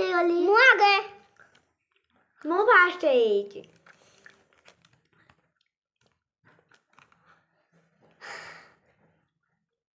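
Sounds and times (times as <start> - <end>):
soft eating sounds: 1.1 - 9.8.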